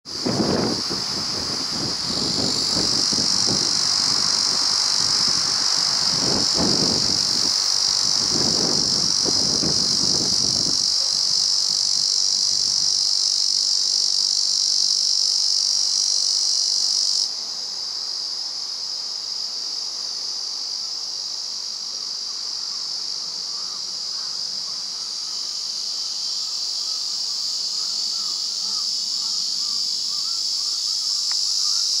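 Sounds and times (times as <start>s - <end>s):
cicada buzzing: 0.1s - 32.0s.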